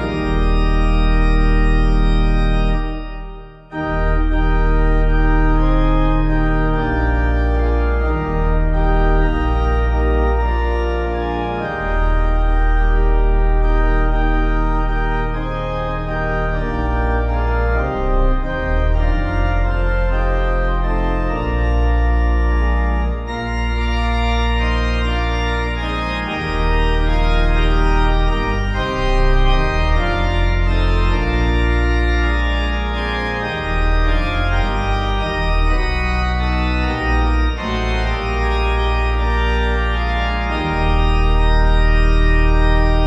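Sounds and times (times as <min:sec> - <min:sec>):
organ music: 0:00.0 - 0:43.0.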